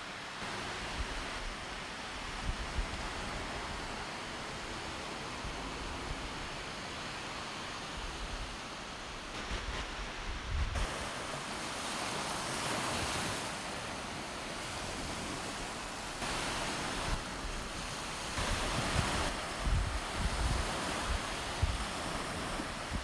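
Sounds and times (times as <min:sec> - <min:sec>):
small waves breaking on sand: 0:00.0 - 0:23.0
wind buffeting the microphone: 0:00.8 - 0:06.6, 0:09.2 - 0:23.0.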